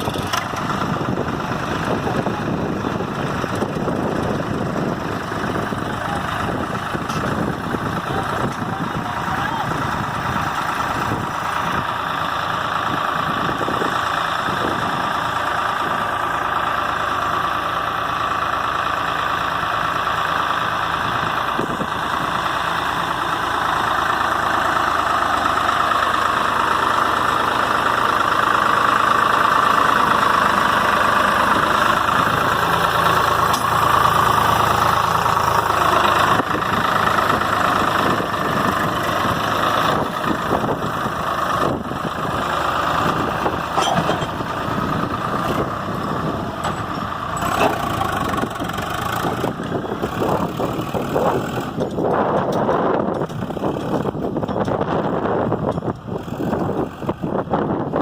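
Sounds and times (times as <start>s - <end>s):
tractor diesel engine straining: 0.0s - 58.0s.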